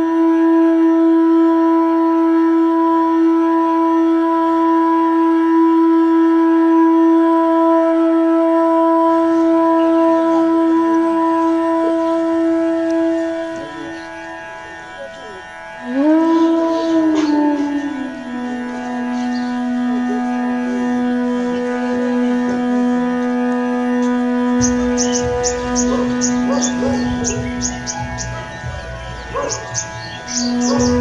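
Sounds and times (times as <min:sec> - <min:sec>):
long held music note: 0:00.0 - 0:31.0.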